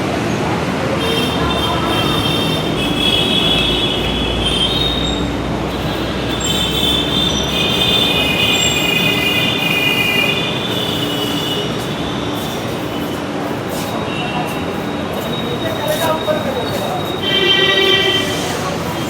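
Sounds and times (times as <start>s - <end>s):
train rumble: 0.0s - 19.0s
train wheels squealing: 3.1s - 19.0s.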